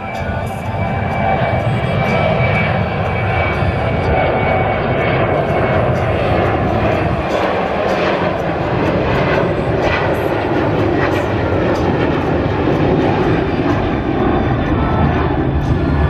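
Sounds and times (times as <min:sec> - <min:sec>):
airliner engines running: 0:00.0 - 0:16.0.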